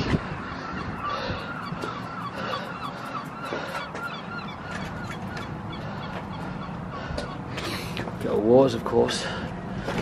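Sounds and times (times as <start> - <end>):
birds honking: 0.0 - 10.0.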